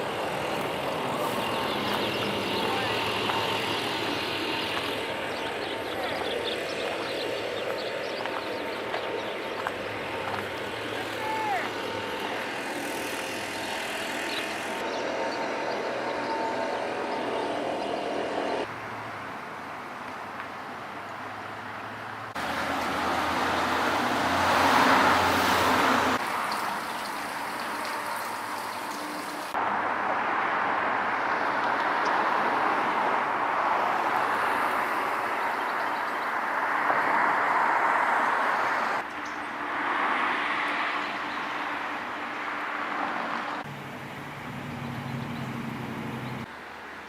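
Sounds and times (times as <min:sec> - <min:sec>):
road traffic noise: 0:00.0 - 0:47.0.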